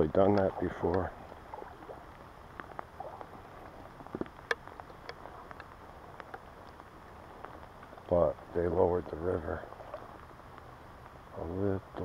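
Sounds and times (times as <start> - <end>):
wet snow pattering: 0.0 - 12.0.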